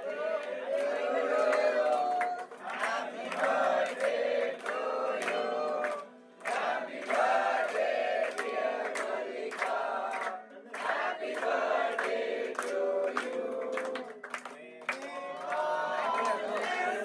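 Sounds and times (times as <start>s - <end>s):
group singing in chorus: 0.0s - 14.2s, 15.4s - 17.0s.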